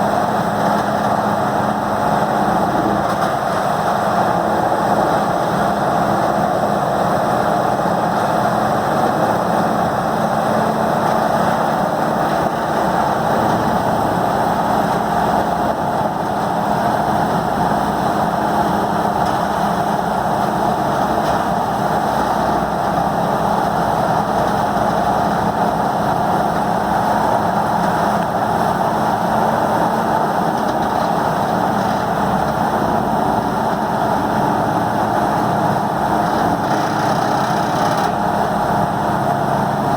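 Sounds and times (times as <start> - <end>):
grinder engine and mill running: 0.0 - 39.9.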